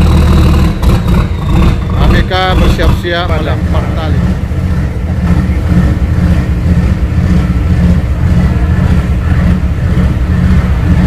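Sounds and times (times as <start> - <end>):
ship engines deep rumble: 0.0 - 11.0.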